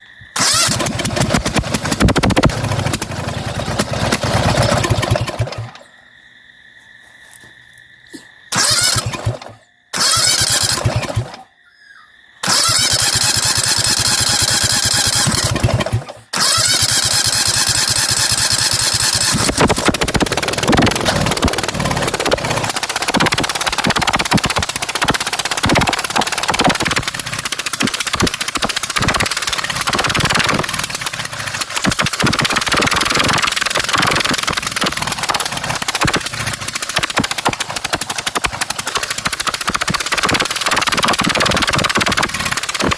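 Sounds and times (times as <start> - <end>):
lawn mower engine starting: 0.0 - 5.9, 8.5 - 11.5, 12.4 - 42.9.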